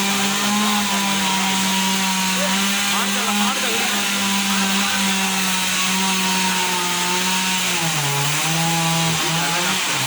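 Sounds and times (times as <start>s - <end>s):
chainsaw cutting a tree: 0.0s - 10.0s.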